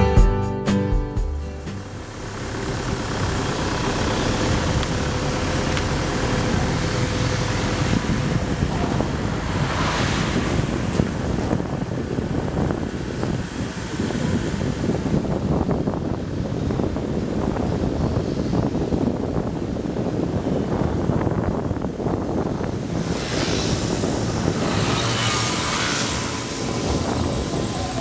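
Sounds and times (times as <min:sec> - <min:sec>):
vehicle road rumble: 0:01.4 - 0:28.0
wind noise: 0:01.8 - 0:28.0.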